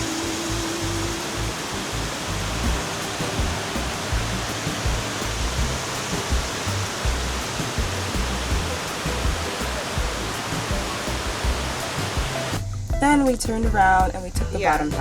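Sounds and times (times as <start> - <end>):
waterfall roaring: 0.0 - 12.6
background music with bass line: 0.0 - 15.0.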